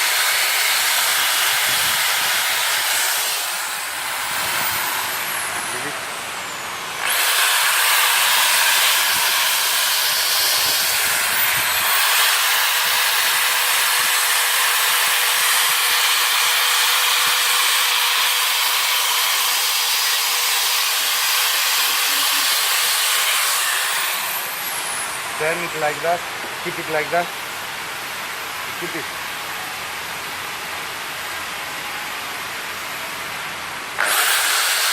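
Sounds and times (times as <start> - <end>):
loud steady hiss: 0.0 - 34.9.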